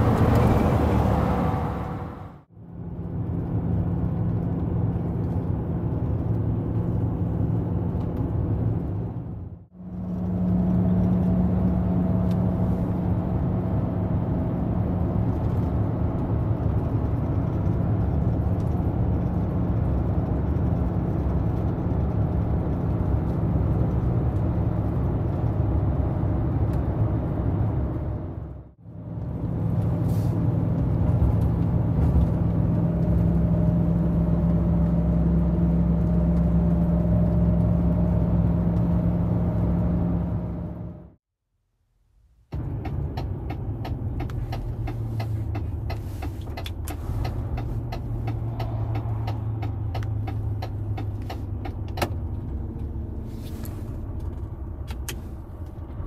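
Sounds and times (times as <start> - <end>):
road and wind noise: 0.0 - 41.2, 41.8 - 56.0
truck engine drone: 0.0 - 41.2, 42.5 - 56.0.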